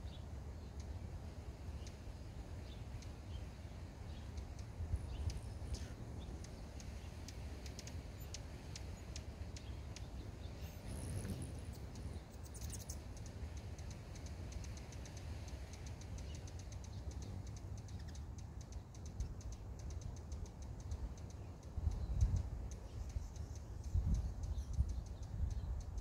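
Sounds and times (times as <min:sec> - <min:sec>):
hummingbird chip calls: 0:00.0 - 0:26.0.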